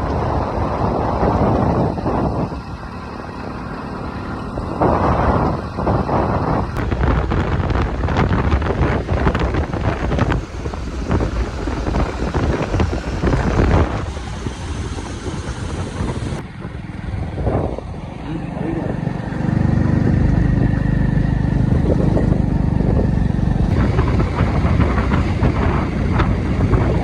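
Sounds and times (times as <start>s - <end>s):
vehicle driving: 0.0s - 27.0s
wind buffeting microphone: 0.0s - 27.0s.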